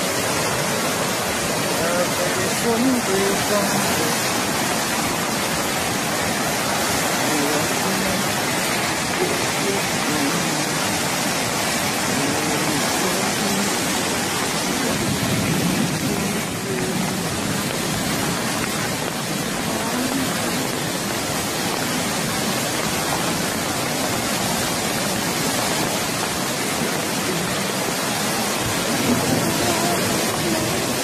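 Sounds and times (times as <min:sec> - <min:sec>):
flood water rushing: 0:00.0 - 0:31.0.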